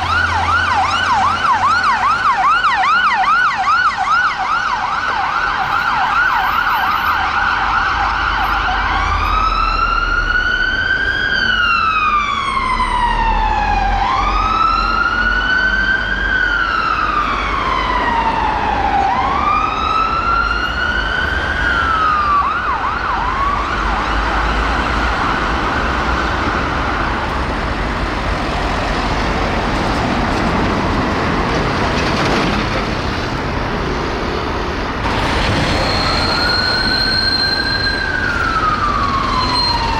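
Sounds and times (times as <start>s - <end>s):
emergency vehicle siren: 0.0s - 39.9s
traffic noise: 0.0s - 39.9s
engine noise: 6.7s - 39.9s.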